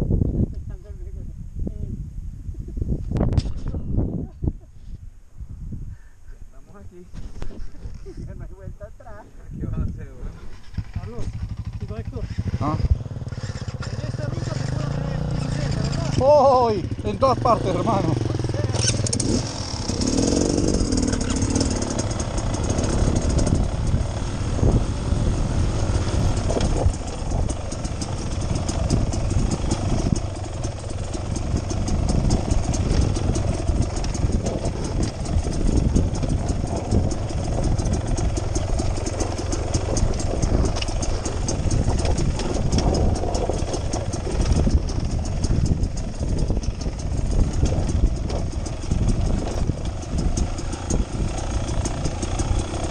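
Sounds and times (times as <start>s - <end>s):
dirt bike engine running: 9.8s - 52.9s.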